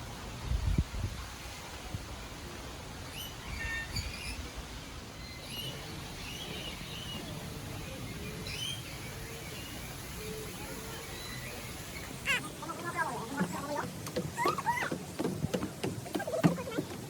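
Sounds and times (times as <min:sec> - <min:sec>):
steady low background noise: 0:00.0 - 0:16.2
small birds chirping: 0:03.1 - 0:17.0.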